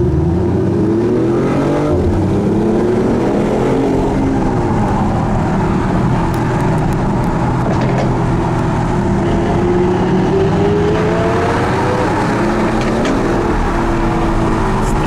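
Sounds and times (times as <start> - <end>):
car engine at speed: 0.0 - 15.0
road noise: 0.0 - 15.0.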